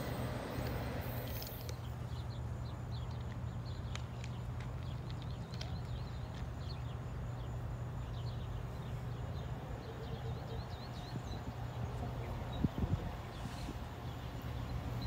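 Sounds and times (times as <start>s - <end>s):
distant diesel locomotives rumbling: 0.0s - 15.0s
small birds chirping: 0.0s - 15.0s.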